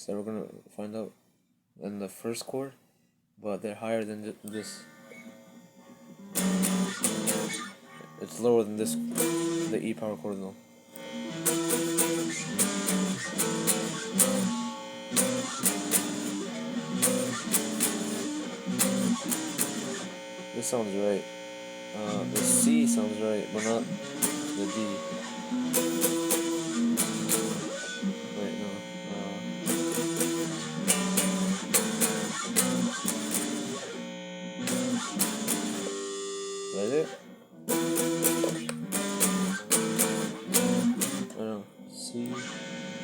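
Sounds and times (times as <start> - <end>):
guitar strumming chords: 4.2 - 43.0.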